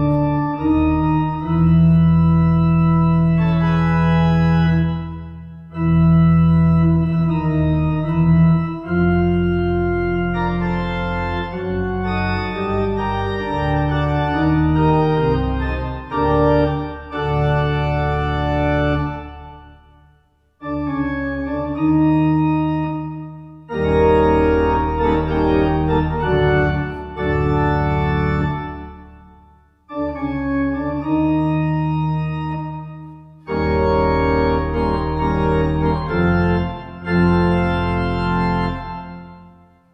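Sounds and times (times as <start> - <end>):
organ music: 0.0 - 39.9.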